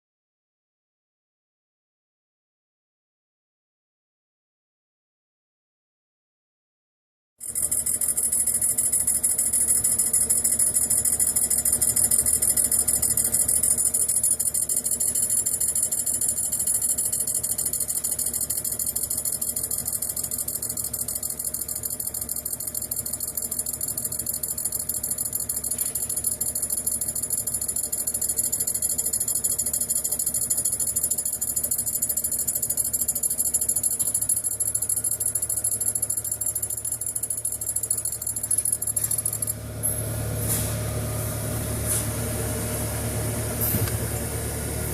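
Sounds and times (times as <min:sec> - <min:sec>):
low machine hum: 0:07.4 - 0:44.9.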